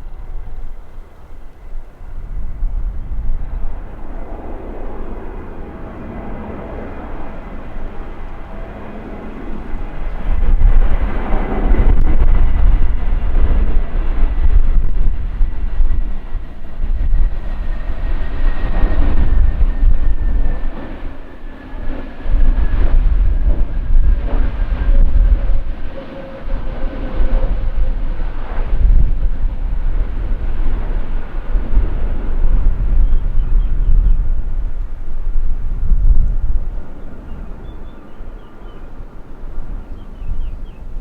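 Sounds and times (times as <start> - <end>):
heavy low rumble: 0.0 - 41.0
jet engine whine: 0.0 - 41.0.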